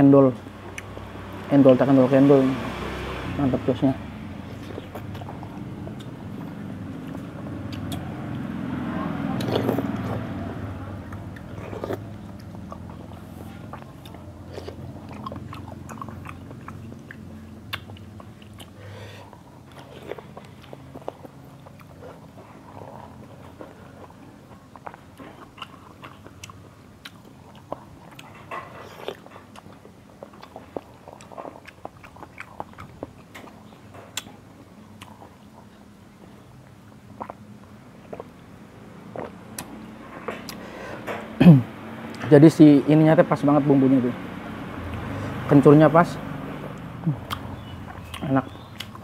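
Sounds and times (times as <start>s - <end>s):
chewing and mouth sounds: 4.4s - 41.2s, 46.2s - 49.0s.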